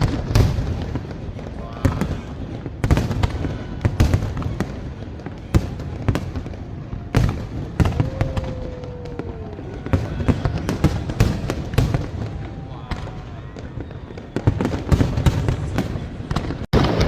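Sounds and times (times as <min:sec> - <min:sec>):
fireworks bangs: 0:00.0 - 0:17.0
firework whistle: 0:01.8 - 0:17.0.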